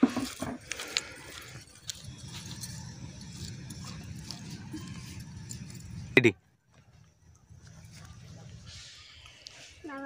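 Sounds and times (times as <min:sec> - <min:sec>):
low steady rumble: 0:00.7 - 0:09.8.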